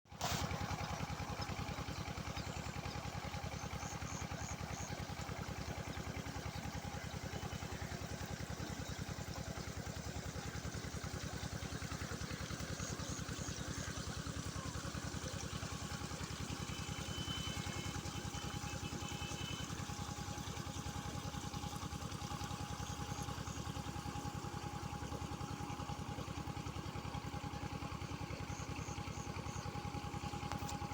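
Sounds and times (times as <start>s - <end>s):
engine running steadily: 0.1s - 30.9s.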